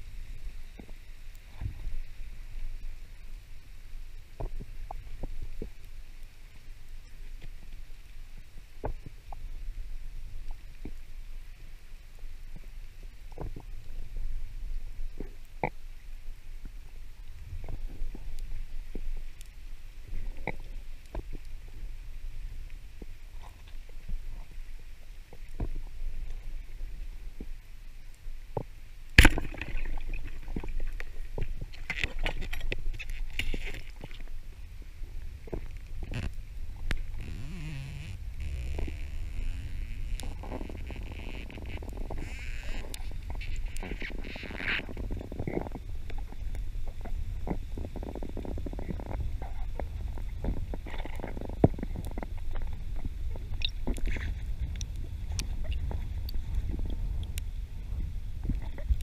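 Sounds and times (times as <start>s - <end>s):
underwater low rumble: 0.0s - 59.0s.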